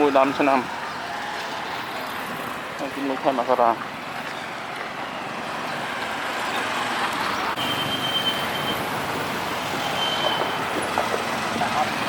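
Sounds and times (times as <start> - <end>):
passing road traffic: 0.0 - 12.0.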